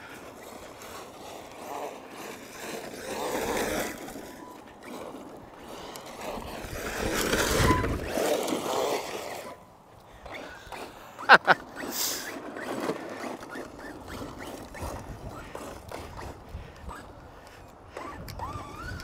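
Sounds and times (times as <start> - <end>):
rc truck driving on dirt: 0.0 - 19.0.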